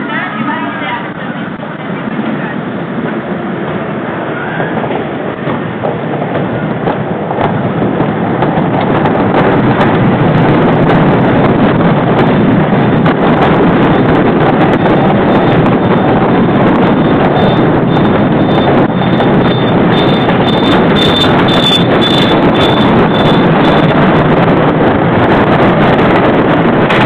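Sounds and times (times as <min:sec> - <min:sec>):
roller coaster wheels rumbling: 0:00.0 - 0:27.0
track clicking and clatter: 0:00.0 - 0:27.0
wind on microphone: 0:00.0 - 0:27.0.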